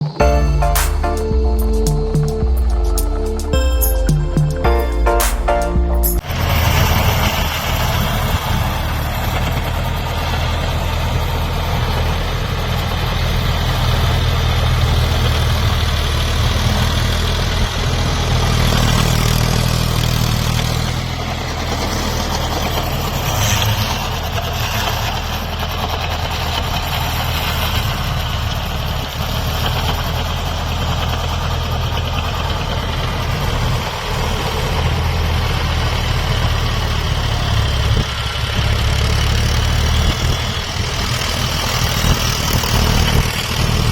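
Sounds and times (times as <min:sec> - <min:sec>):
diesel tractor engine idling: 0:06.2 - 0:43.9.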